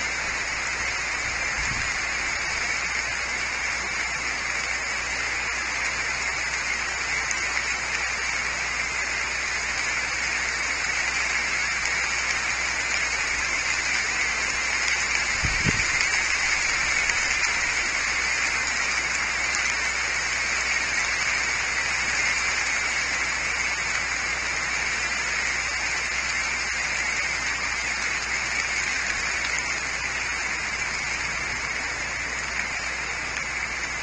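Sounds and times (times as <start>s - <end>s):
rain falling on foliage: 0.0s - 34.0s.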